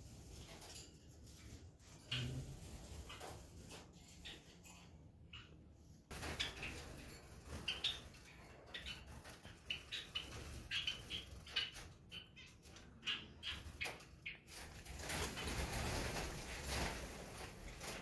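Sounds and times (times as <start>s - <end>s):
small birds chirping: 1.4s - 18.0s.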